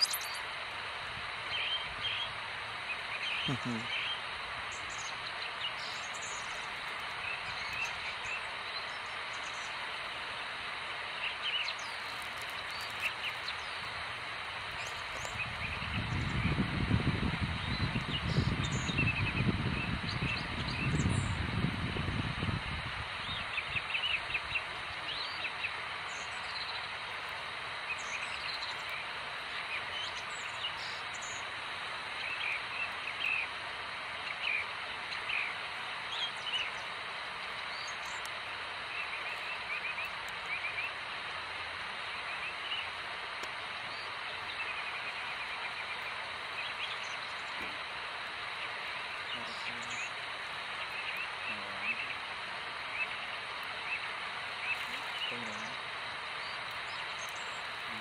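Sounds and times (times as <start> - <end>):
outdoor background hiss: 0.0 - 58.0
small birds chirping: 0.0 - 58.0.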